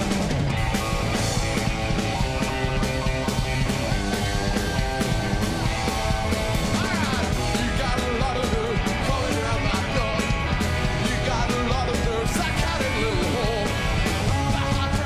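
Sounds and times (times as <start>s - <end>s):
live band with guitar and drums: 0.0s - 15.0s.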